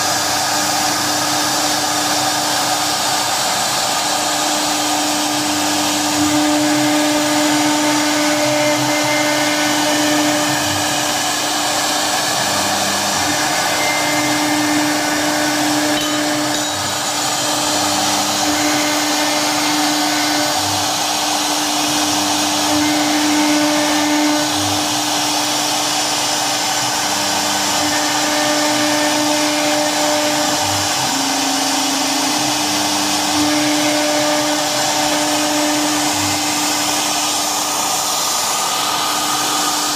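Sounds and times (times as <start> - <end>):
router spindle high whine: 0.0 - 39.9
low hums shifting pitch: 4.4 - 39.9.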